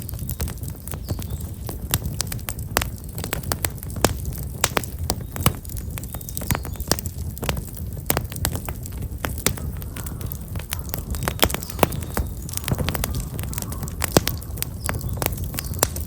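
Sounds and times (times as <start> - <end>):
firewood crackling and popping: 0.0 - 16.0
low noise of flames: 0.0 - 16.0.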